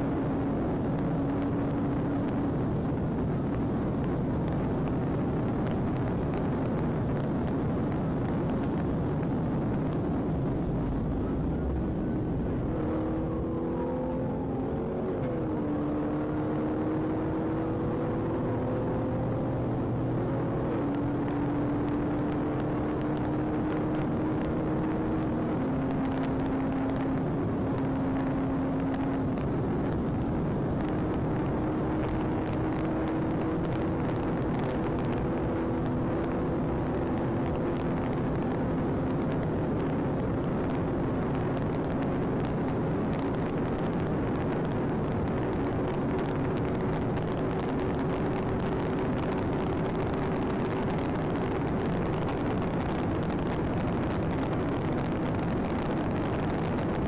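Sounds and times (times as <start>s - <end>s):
car engine at speed: 0.0s - 57.0s
road and wind noise: 0.0s - 57.0s.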